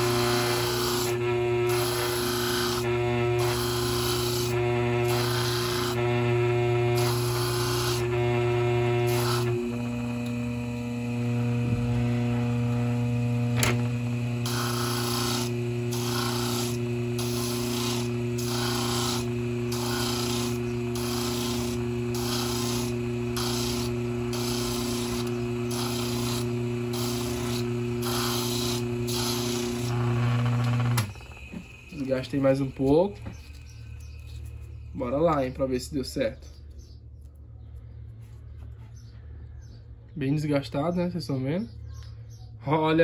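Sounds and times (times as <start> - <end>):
grinding rasping strokes: 0.0 - 35.3
sander motor humming: 0.0 - 35.6.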